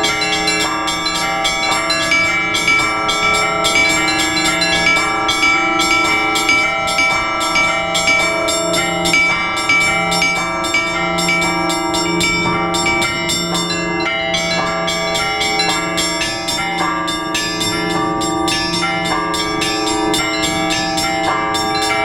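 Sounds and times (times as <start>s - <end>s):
church bells pealing: 0.0s - 22.0s.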